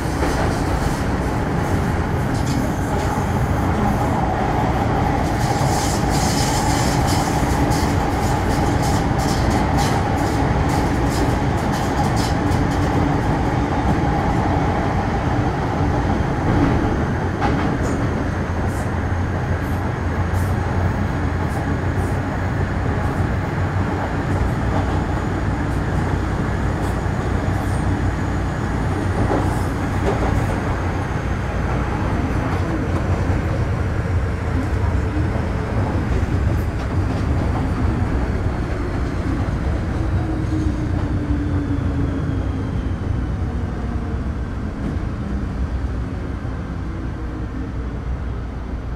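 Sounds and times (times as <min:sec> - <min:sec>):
train running rumble: 0:00.0 - 0:48.9.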